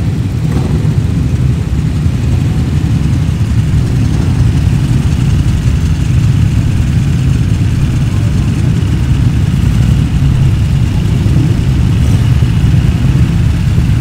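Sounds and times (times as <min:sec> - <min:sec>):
motorcycle engine idling: 0:00.0 - 0:14.0
racing motorcycle engines running: 0:00.0 - 0:14.0.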